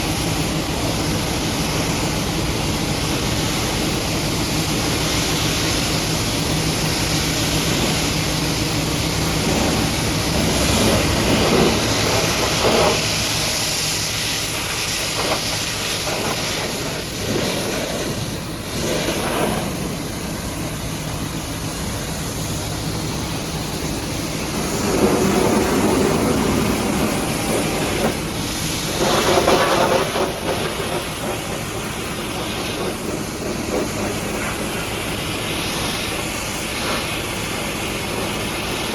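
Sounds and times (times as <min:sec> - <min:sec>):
pressure washer spraying: 0:00.0 - 0:38.9.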